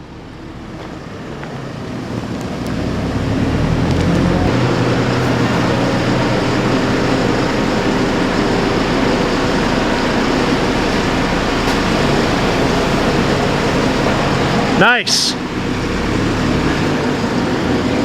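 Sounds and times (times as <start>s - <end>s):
diesel engine running: 0.0s - 18.0s
mechanical hum: 0.0s - 18.0s.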